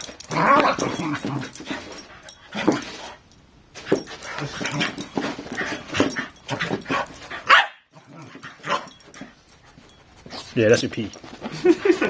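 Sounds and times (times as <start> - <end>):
dogs yipping while play-fighting: 0.0 - 10.4.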